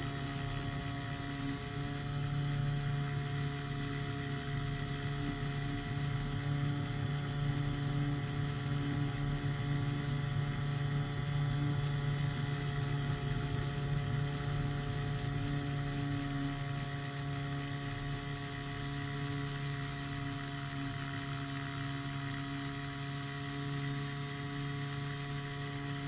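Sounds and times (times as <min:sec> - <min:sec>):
propeller engine droning: 0:00.0 - 0:26.0.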